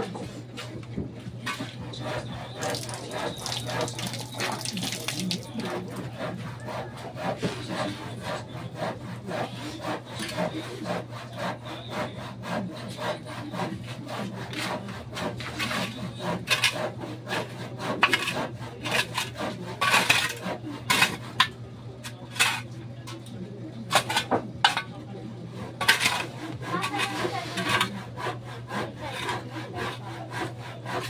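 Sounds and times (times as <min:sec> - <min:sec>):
hand tool scraping: 0:01.4 - 0:22.7, 0:23.9 - 0:25.0, 0:25.6 - 0:31.0.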